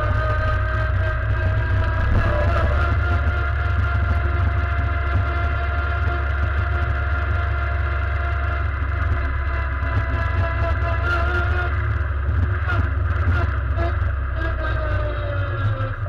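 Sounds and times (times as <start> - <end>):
car engine low drone: 0.0 - 16.0.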